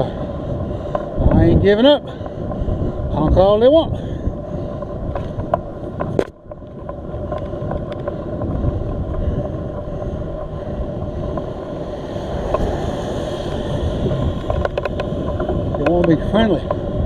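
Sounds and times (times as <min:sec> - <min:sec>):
road and traffic noise: 0:00.0 - 0:17.0
wind rushing over microphone: 0:00.0 - 0:17.0.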